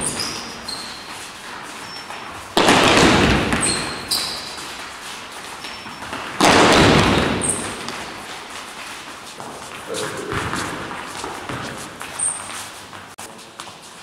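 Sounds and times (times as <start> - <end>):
high sneaker squeaks: 0.0 - 6.5, 7.1 - 14.0
sneakers stamping on gym floor: 0.0 - 14.0.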